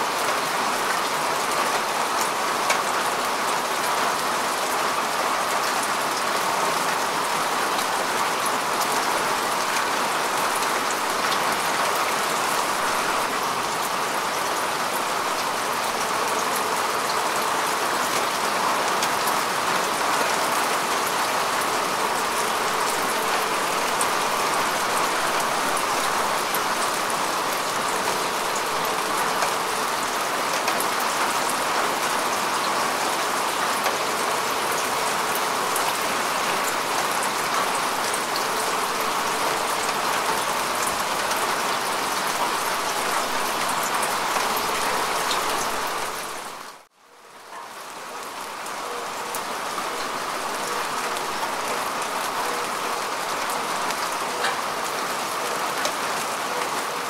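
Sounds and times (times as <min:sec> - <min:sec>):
rain falling on grass: 0:00.0 - 0:57.0.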